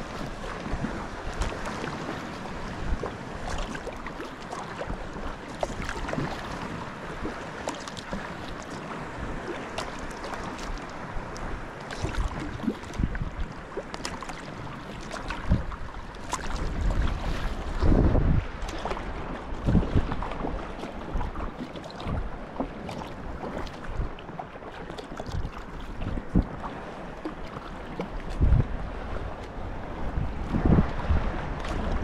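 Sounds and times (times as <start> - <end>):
wind buffeting microphone: 0.0 - 13.8, 14.4 - 24.4, 25.2 - 32.0
water splashing against kayak: 0.0 - 32.0.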